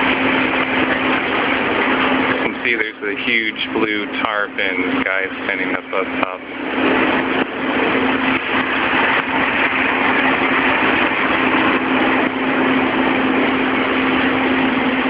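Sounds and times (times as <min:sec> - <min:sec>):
machinery engine droning: 0:00.0 - 0:15.0.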